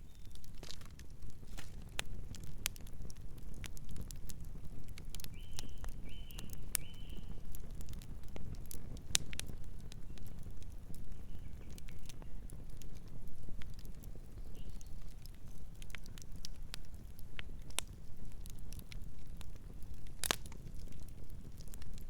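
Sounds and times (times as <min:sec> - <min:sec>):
campfire flames rumbling: 0:00.0 - 0:22.0
fire crackles and pops: 0:00.0 - 0:22.0.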